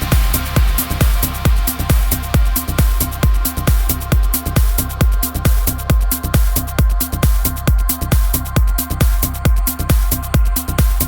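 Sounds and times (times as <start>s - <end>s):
kick drum beat: 0.0s - 11.0s
off-beat hi-hats: 0.0s - 11.0s.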